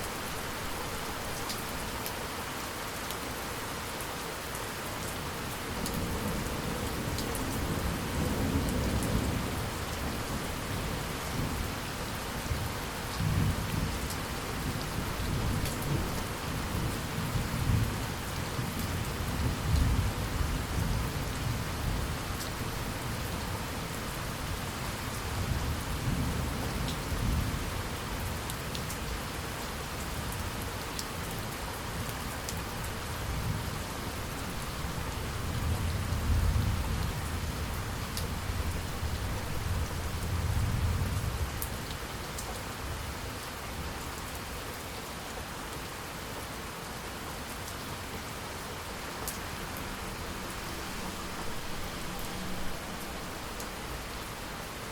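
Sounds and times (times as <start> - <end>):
steady rain pattering: 0.0 - 54.9.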